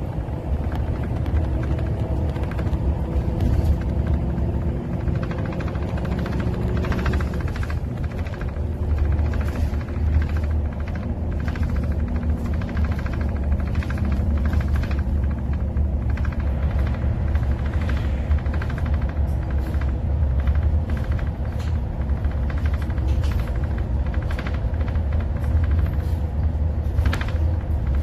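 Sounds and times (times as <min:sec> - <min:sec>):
vehicle interior rumble: 0:00.0 - 0:28.0.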